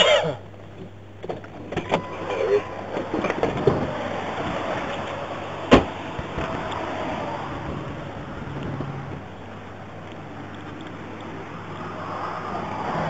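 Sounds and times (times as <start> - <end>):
vehicle noise with low hum: 0.0 - 13.0.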